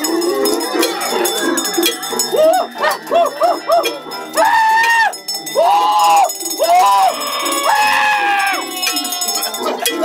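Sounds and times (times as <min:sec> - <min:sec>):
clatter of percussion and toys: 0:00.0 - 0:10.0.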